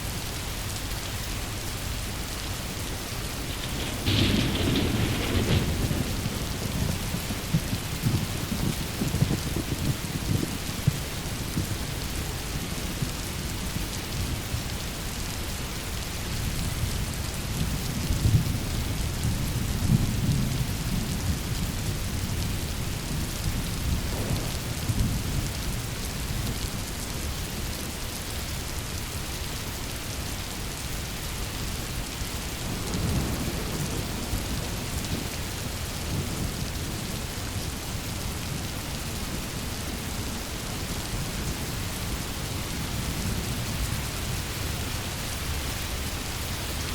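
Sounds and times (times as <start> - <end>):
heavy rain falling: 0.0 - 46.9
low rolling thunder: 1.7 - 28.5, 31.6 - 46.9.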